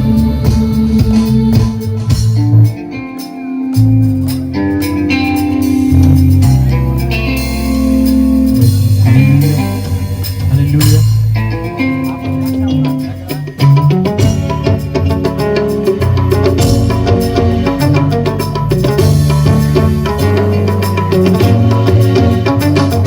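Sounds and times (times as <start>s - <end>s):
bass guitar low notes: 0.0s - 23.0s
live band playing instrumental music: 0.0s - 23.0s.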